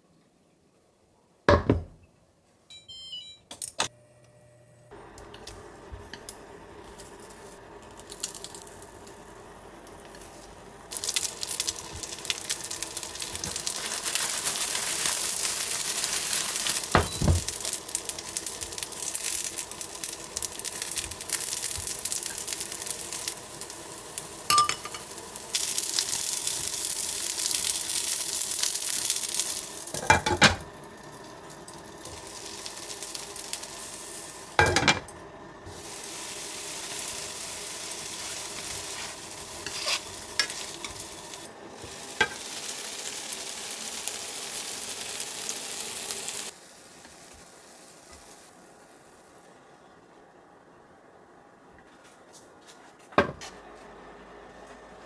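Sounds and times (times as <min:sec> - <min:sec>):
mushrooms sizzling in frying pan: 0:04.9 - 0:49.8.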